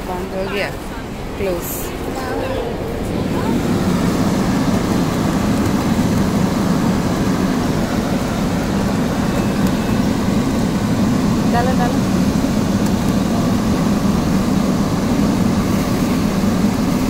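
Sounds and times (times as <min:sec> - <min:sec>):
air blower droning: 0:00.0 - 0:17.0.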